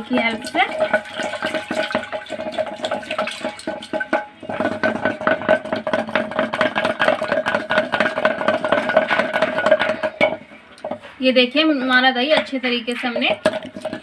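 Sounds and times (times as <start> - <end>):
wooden churner clattering in pot: 0.0 - 14.0.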